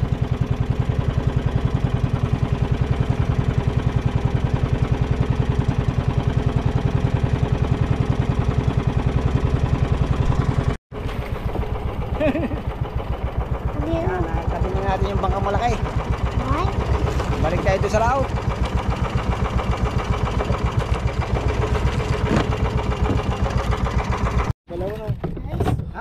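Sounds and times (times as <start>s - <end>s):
small engine chugging: 0.0s - 24.5s.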